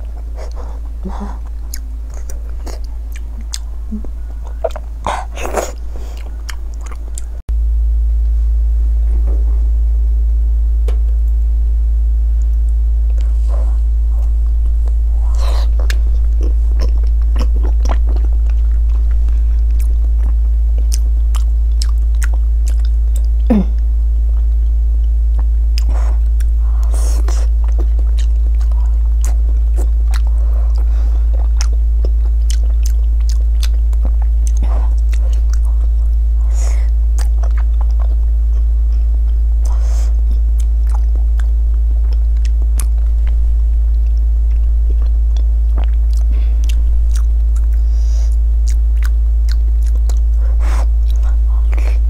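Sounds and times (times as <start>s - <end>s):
person chewing and lip smacking: 0.0s - 7.4s, 12.4s - 52.0s
steady low hum: 0.0s - 52.0s.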